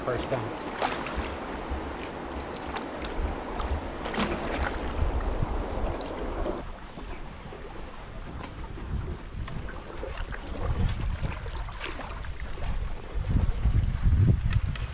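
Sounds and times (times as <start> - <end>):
paddle splashing and knocking: 0.0 - 14.9
river water washing: 0.0 - 14.9
wind rumbling on microphone: 0.0 - 14.9.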